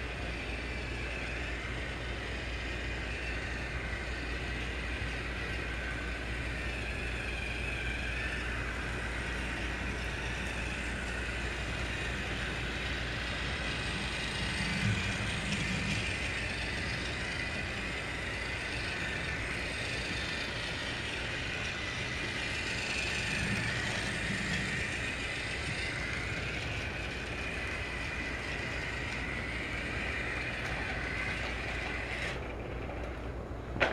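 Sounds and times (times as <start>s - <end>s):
toy train motor whirring: 0.0s - 33.9s.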